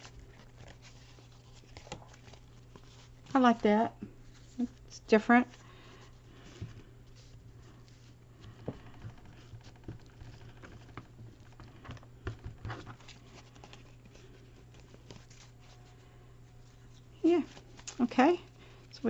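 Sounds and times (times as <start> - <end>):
paper and fabric rustling: 0.0 - 19.0
steady low hum: 0.0 - 19.0.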